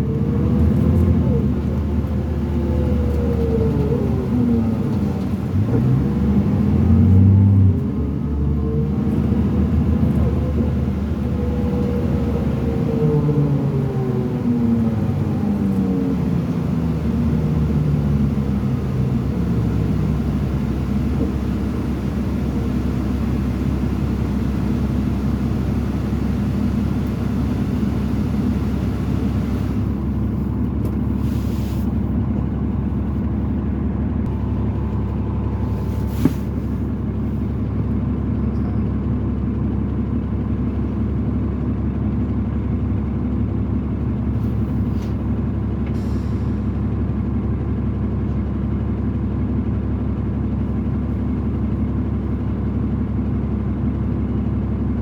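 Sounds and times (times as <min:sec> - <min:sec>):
bus engine rumbling: 0:00.0 - 0:55.0.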